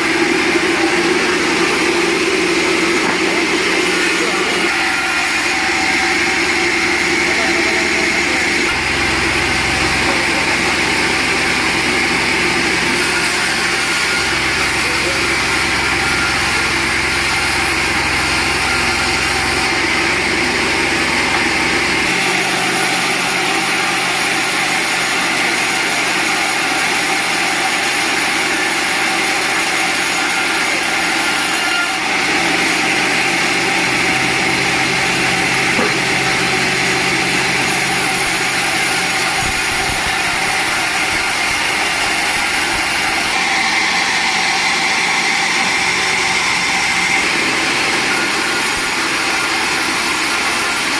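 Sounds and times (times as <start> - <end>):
sawmill saw cutting log: 0.0 - 50.9.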